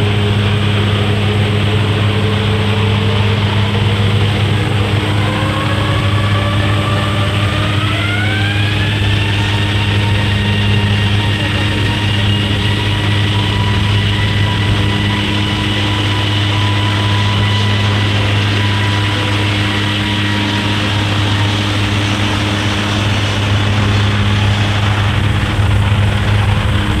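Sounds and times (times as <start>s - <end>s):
airplane engines roaring: 0.0s - 27.0s.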